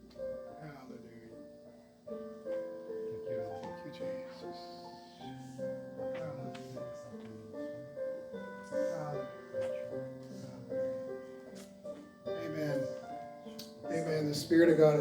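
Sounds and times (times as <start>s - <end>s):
keyboard playing slow chords: 0.0s - 15.0s.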